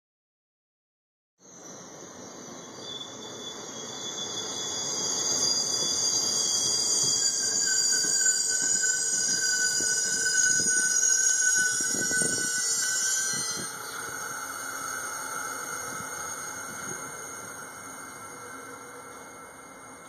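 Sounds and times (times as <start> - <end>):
high-pitched train wheel squeal: 1.4 - 20.0
train rumbling: 2.0 - 20.0.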